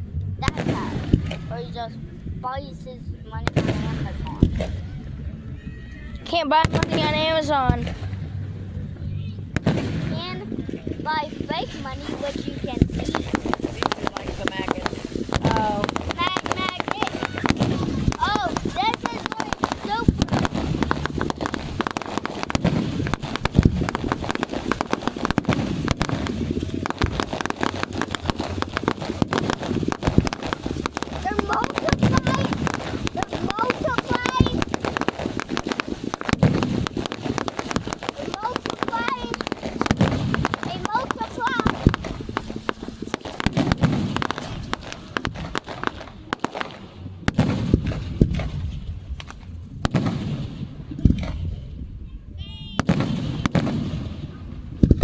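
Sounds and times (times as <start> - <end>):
loud firework crack: 0.0 - 5.4, 6.2 - 55.0
fireworks crackling: 0.0 - 5.5, 6.2 - 55.0
low rumble: 0.0 - 55.0.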